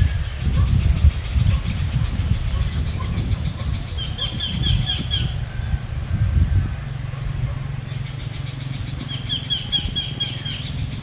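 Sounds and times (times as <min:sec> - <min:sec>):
songbird singing: 0:00.0 - 0:11.0
steady low rumble: 0:00.0 - 0:11.0.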